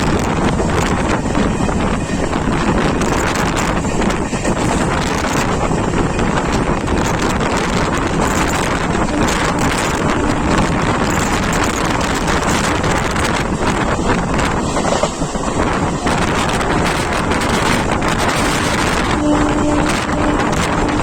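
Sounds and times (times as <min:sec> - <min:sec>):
train running at speed: 0:00.0 - 0:21.0
wind on microphone: 0:00.0 - 0:21.0.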